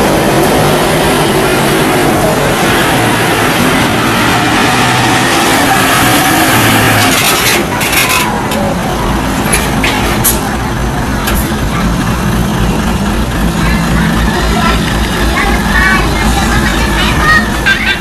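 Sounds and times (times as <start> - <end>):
truck diesel engine under load: 0.0 - 18.0.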